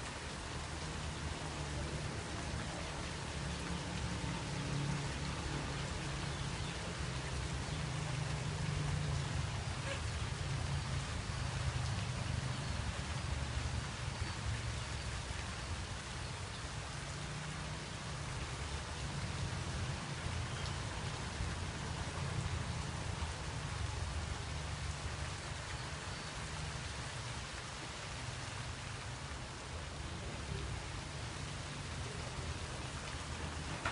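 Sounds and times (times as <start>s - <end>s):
steady rain patter: 0.0s - 33.9s.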